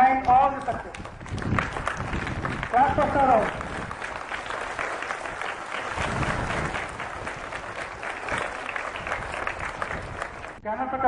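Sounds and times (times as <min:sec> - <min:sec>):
children applauding: 0:00.2 - 0:10.6.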